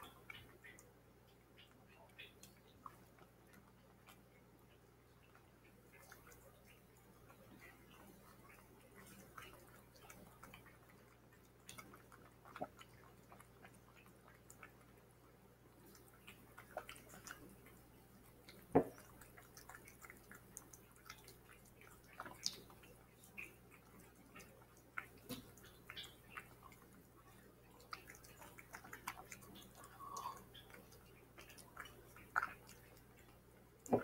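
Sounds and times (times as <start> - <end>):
cat eating wet food: 0.0 - 34.0.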